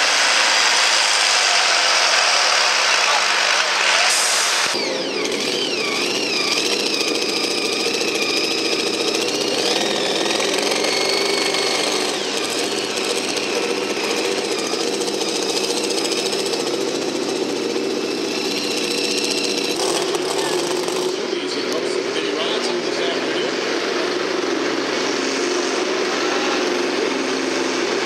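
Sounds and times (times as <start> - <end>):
tractor engine under heavy load: 0.0 - 28.0.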